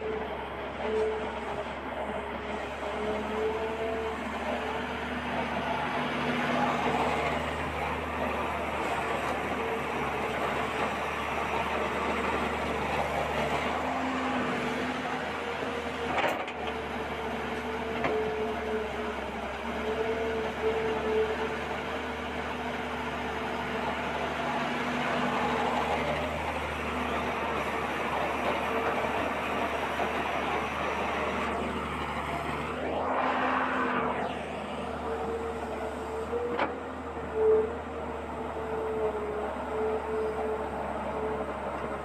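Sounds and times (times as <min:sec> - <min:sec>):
toy excavator motors whining: 0:00.0 - 0:42.0.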